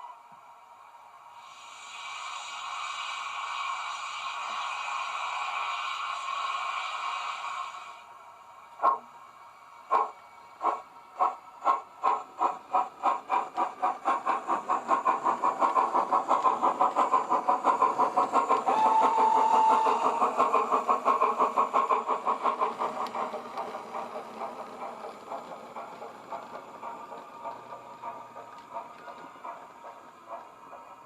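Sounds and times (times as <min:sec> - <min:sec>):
steam locomotive exhaust chuffs: 0:01.3 - 0:08.2, 0:09.8 - 0:31.0.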